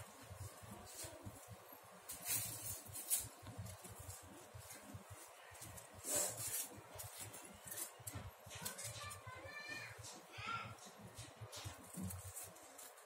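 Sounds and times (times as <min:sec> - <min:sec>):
paper rustling: 0:00.4 - 0:09.9, 0:11.2 - 0:13.0
scissors snipping paper: 0:02.1 - 0:13.0.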